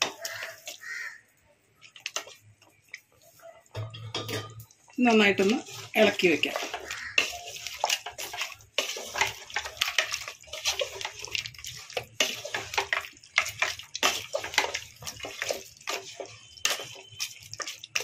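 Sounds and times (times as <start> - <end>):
wooden spatula stirring thick sauce: 0.0 - 1.1, 1.8 - 18.0.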